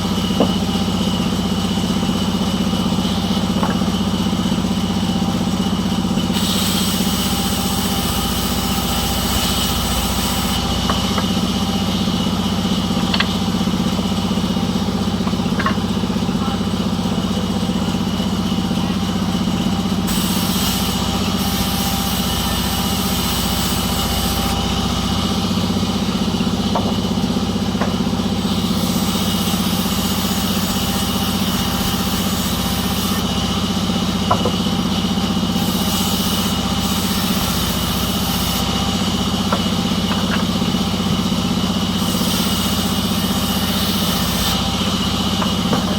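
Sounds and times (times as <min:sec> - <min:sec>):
engine idling: 0:00.0 - 0:45.9.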